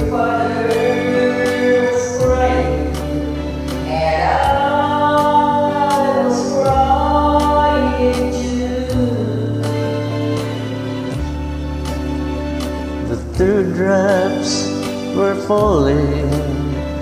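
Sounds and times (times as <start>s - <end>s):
person singing karaoke: 0.0s - 17.0s.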